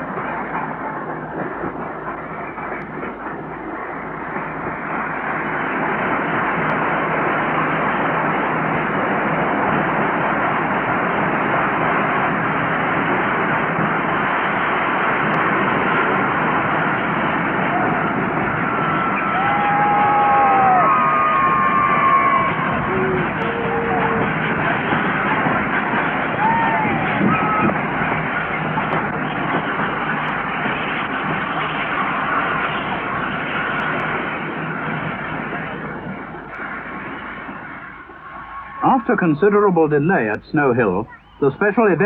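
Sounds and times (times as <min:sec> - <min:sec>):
steam locomotive running: 0:00.0 - 0:42.0.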